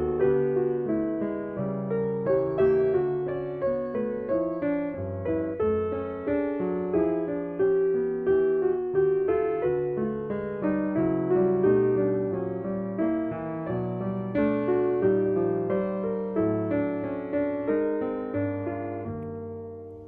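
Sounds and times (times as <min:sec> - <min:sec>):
solo jazz piano ballad: 0:00.0 - 0:20.0.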